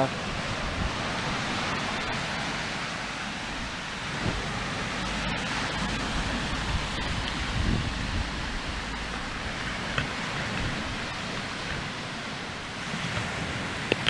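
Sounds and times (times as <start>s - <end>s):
fire rushing: 0.0s - 14.0s
wind buffeting microphone: 0.0s - 14.0s.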